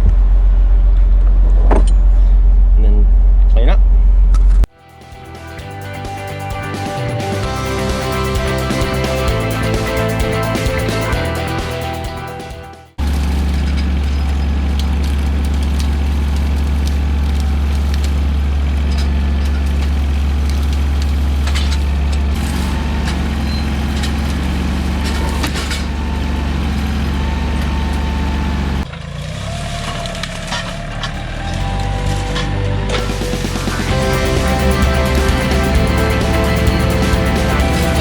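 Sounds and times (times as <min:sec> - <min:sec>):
heavy engine running: 0:00.0 - 0:38.0.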